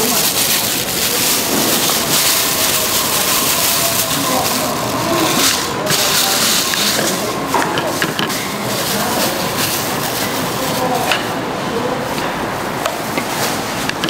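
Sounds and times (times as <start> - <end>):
indistinct voices: 0.0 - 14.0.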